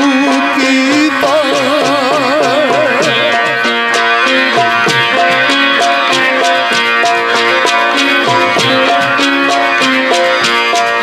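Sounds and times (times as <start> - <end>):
harmonium: 0.0 - 11.0
sitar: 0.0 - 11.0
steady drum beat: 0.0 - 11.0.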